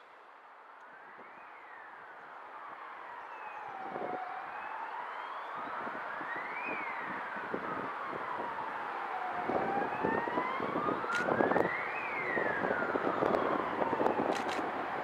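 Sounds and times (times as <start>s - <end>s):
emergency vehicle siren wailing: 0.8s - 15.0s.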